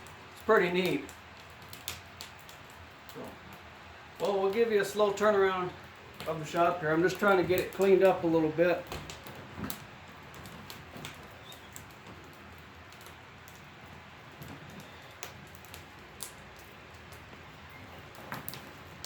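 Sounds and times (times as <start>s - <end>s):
faint clicks and ticks: 0.0s - 19.0s.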